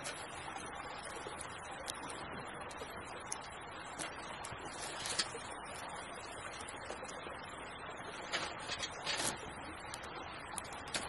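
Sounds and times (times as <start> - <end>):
campfire crackling and popping: 0.0 - 11.0
creek rushing: 0.0 - 11.0.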